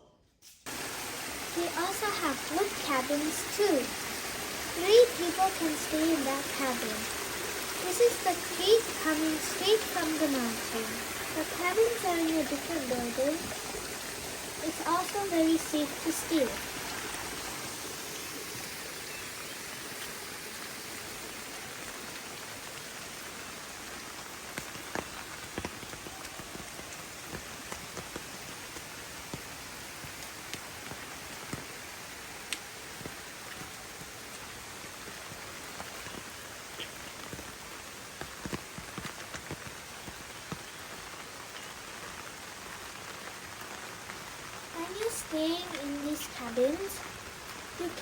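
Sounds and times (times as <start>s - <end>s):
running water hiss: 0.4s - 48.0s.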